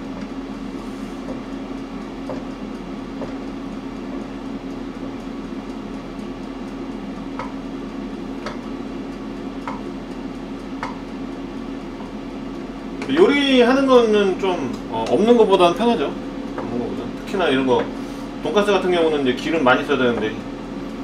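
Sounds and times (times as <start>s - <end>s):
air fryer fan hum: 0.0s - 21.0s.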